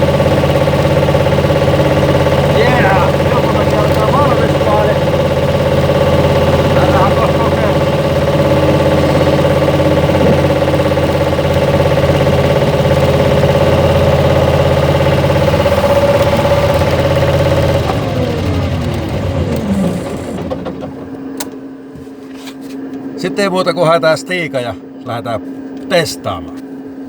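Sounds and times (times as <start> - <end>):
loader engine running: 0.0 - 27.0.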